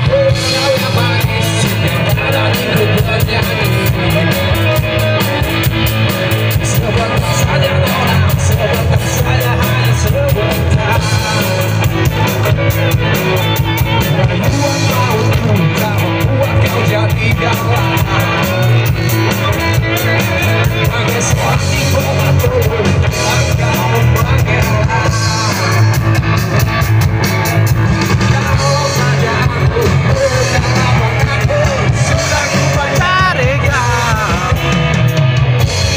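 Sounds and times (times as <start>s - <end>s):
man singing: 0.0s - 35.9s
rock band playing: 0.0s - 35.9s.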